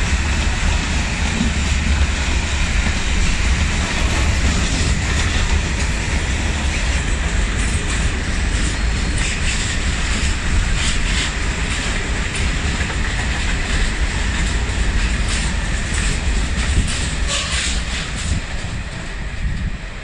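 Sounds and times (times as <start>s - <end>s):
train wheel clacks: 0.0s - 19.8s
freight train rumbling past: 0.0s - 20.0s.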